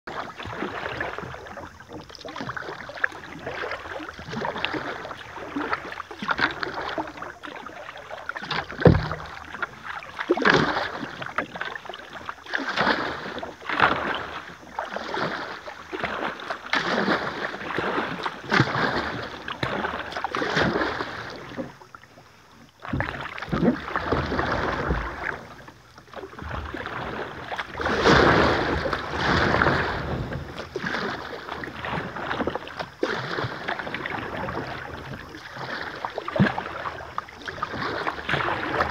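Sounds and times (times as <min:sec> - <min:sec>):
paddle strokes swishing in water: 0:00.1 - 0:38.9.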